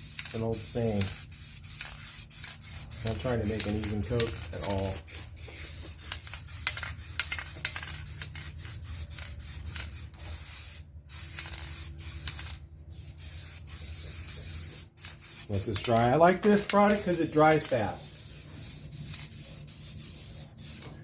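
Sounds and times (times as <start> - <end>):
aerosol paint spraying hiss: 0.0 - 15.8, 16.6 - 21.0.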